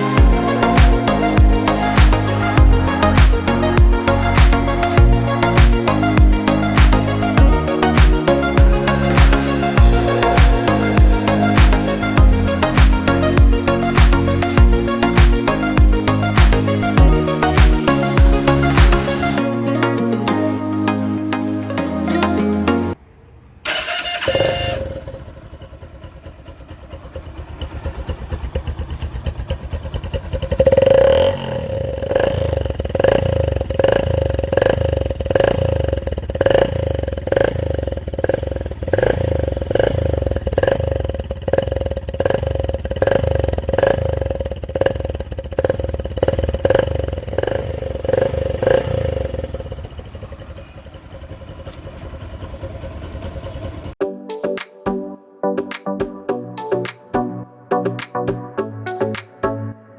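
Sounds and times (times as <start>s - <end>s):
motorcycle engine idling and blipping: 0.0s - 20.3s, 22.9s - 54.0s.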